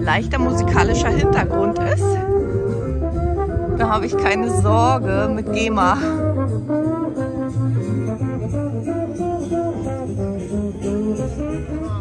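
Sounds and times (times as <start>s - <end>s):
bass notes: 0.0s - 12.0s
trombone melody: 0.0s - 12.0s.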